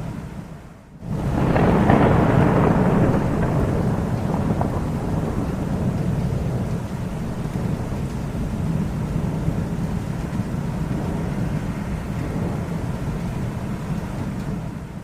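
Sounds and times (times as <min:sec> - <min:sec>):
rolling thunder rumble: 0:01.0 - 0:15.0.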